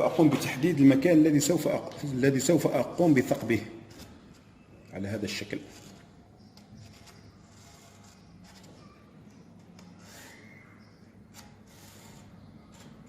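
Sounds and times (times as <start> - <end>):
marker scratching on metal door: 0.2 - 13.0.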